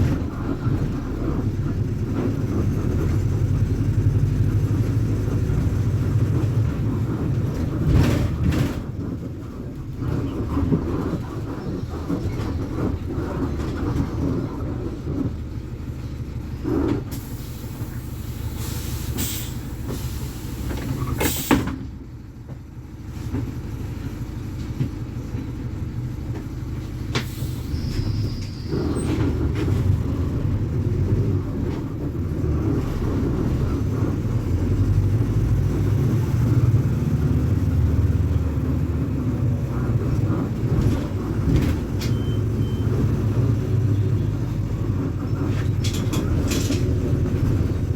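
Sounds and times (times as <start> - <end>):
diesel bus engine rumbling: 0.0 - 47.9.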